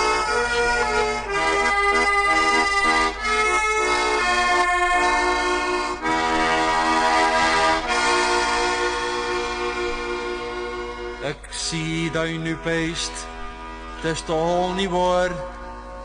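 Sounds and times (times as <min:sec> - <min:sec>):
accordion chords: 0:00.0 - 0:16.0.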